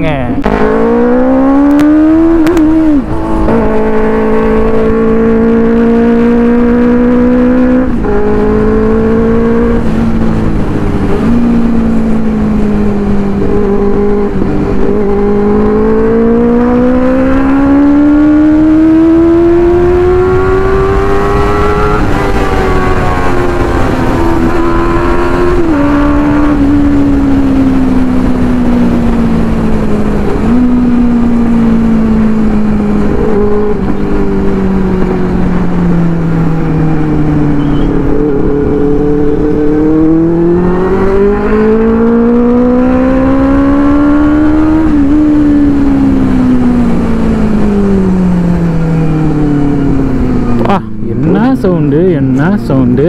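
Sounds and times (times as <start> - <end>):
motorbike engine accelerating: 0.0 - 53.0.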